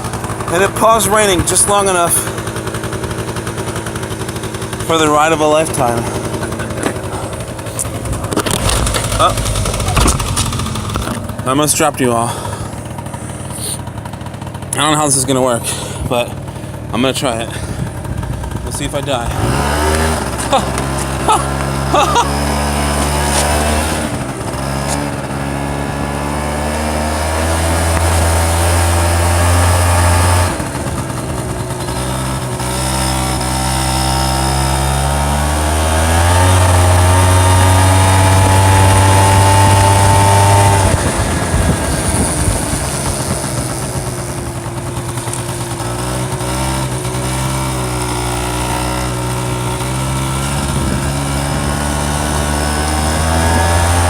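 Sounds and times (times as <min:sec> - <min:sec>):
scooter engine running: 0:00.0 - 0:54.0.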